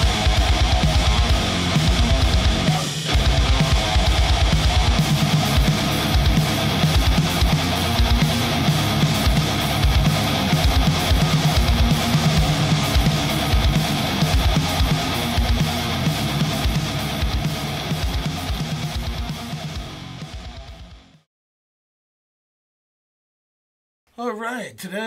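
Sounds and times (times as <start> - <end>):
drum kit beat: 0.0 - 21.2
rock music with electric guitar: 0.0 - 21.3.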